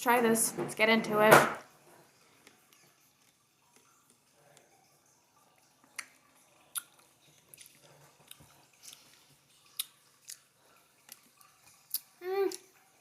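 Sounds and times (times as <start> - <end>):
chewing lemon with wet smacks: 2.4 - 13.0.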